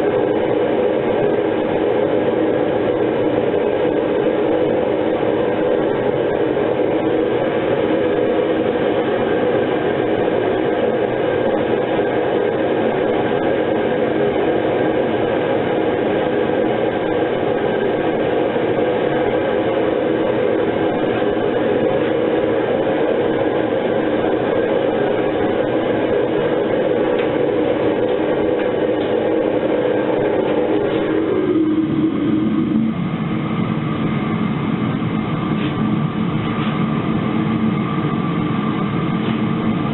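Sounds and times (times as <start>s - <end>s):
furnace burner roaring: 0.0s - 39.9s.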